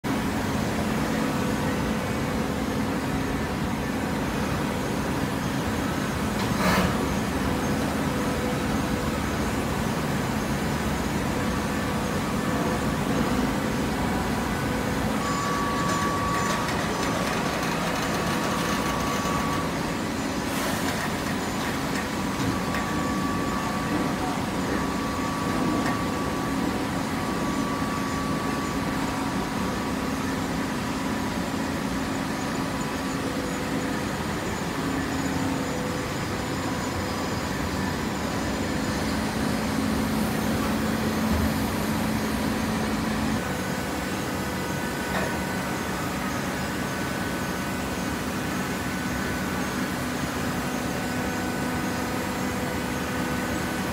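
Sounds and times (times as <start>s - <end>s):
baler motor and pump droning: 0.1s - 53.9s.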